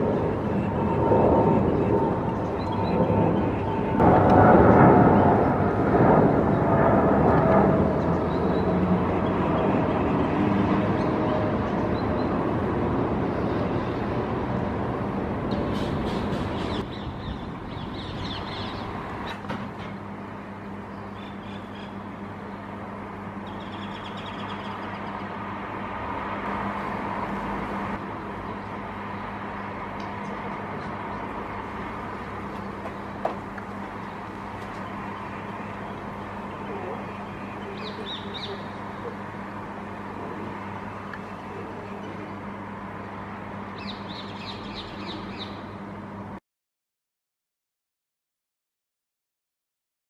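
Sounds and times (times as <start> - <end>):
outdoor rumble: 0.0 - 46.4.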